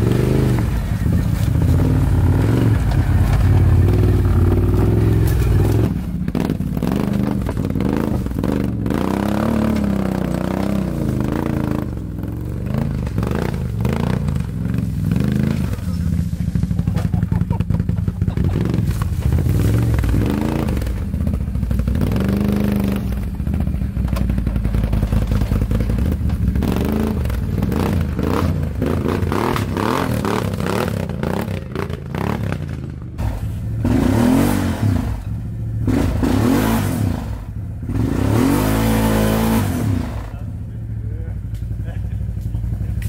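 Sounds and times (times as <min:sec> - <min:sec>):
quad engine revving: 0:00.0 - 0:43.0.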